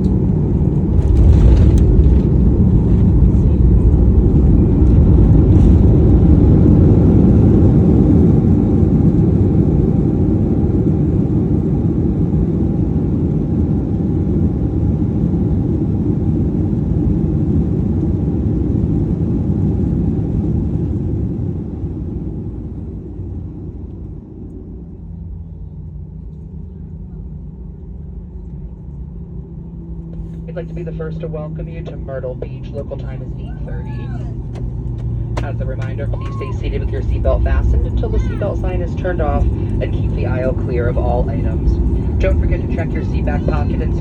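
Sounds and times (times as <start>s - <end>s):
airplane cabin engine roar: 0.0s - 44.0s.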